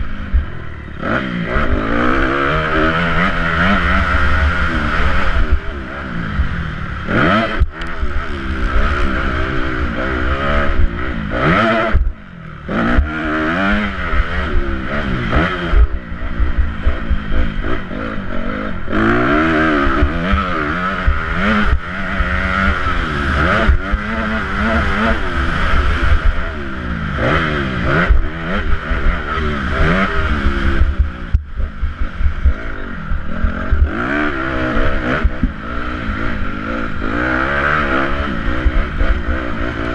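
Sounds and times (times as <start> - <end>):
motocross motorcycle engine revving: 0.0 - 39.9.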